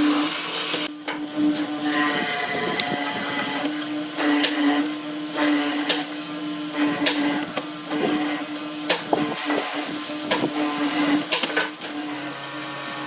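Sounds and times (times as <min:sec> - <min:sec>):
power tool motor running: 0:00.0 - 0:13.0.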